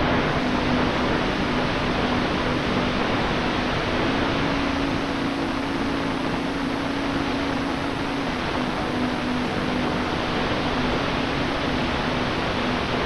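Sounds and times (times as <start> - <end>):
electric motor and propeller hum: 0.0 - 13.0.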